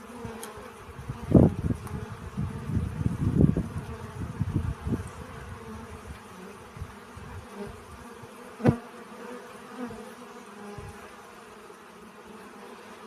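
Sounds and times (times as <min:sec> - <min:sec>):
bee buzzing: 0:00.0 - 0:13.0.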